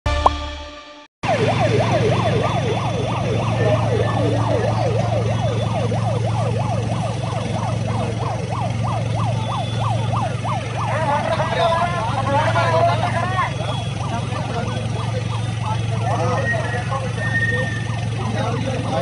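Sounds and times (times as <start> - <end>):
low engine drone: 0.1 - 19.0
siren yelping: 1.2 - 19.0.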